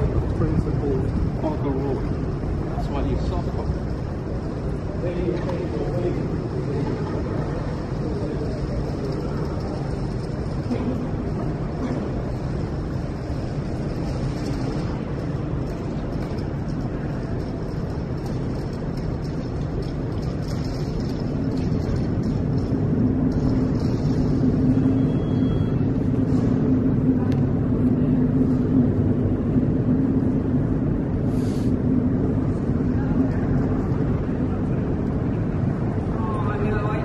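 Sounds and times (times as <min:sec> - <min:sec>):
engine rumble humming: 0:00.0 - 0:37.0.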